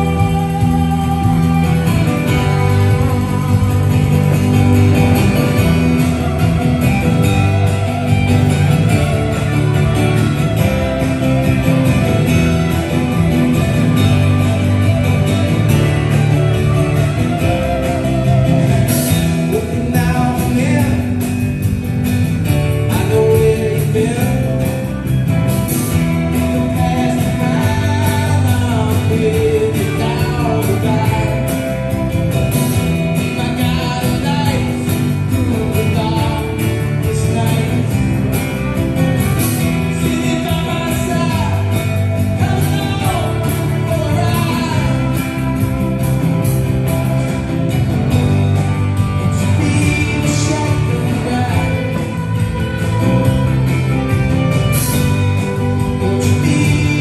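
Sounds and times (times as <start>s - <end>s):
person singing: 0.0s - 21.6s, 22.5s - 25.1s, 25.8s - 57.0s
blues rock guitar: 0.0s - 57.0s.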